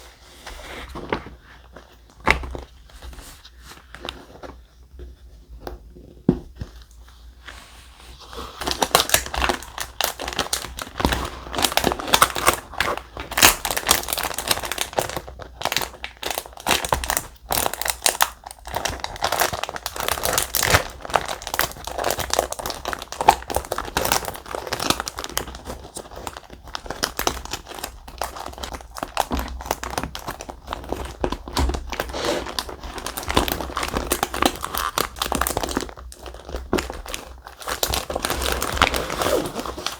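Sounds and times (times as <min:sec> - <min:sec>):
stiff paper crinkling: 0:07.6 - 0:39.9.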